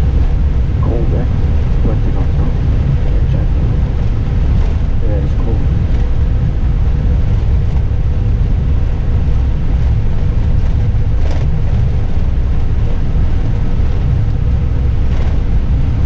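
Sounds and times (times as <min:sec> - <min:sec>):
airliner cockpit rumble: 0:00.0 - 0:16.0
faint steady hum: 0:00.0 - 0:16.0.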